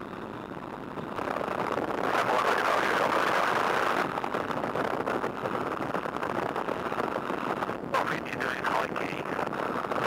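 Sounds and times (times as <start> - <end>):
aircraft engine noise: 0.0 - 10.0
wind buffeting microphone: 0.0 - 10.0.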